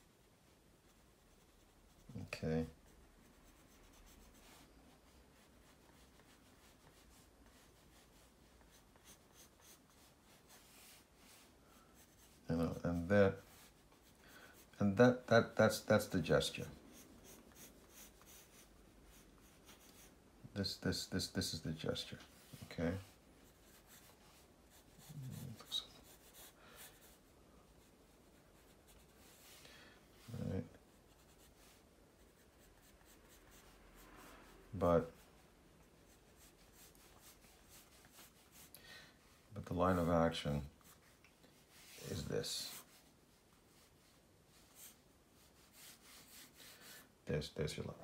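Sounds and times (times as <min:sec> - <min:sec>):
pencil scratching on paper: 0:00.8 - 0:20.2, 0:21.2 - 0:29.6, 0:30.2 - 0:35.4, 0:36.0 - 0:38.7, 0:40.7 - 0:47.1.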